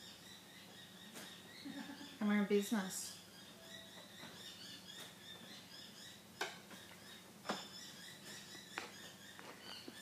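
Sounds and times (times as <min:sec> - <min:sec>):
faint chirping: 0:00.0 - 0:10.0.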